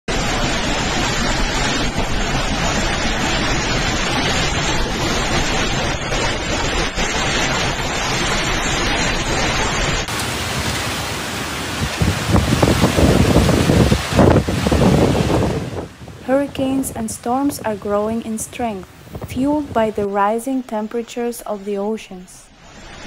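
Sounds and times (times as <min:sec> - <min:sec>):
driving rain: 0:00.0 - 0:20.8
hurricane wind: 0:00.1 - 0:21.6.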